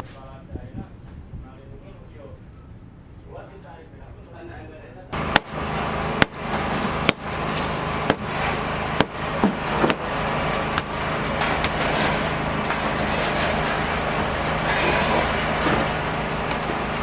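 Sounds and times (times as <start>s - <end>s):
steady mechanical rumble: 0.0s - 17.0s.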